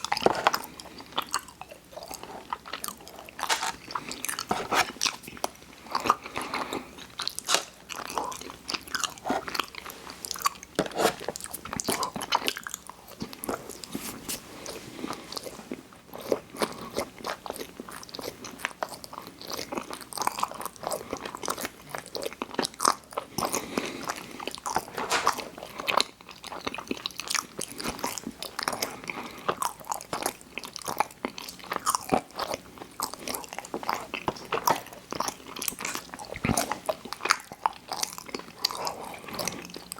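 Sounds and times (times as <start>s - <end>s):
chewing crunchy snack: 0.0s - 14.0s, 14.6s - 39.9s.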